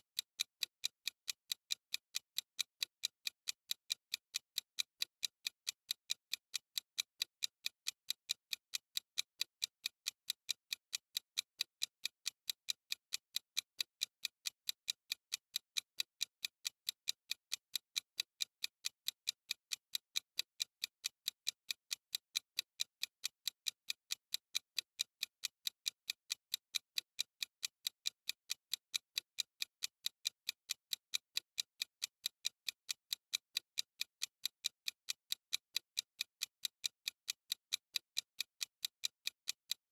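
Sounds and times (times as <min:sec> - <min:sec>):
clock ticking: 0:00.2 - 0:39.9.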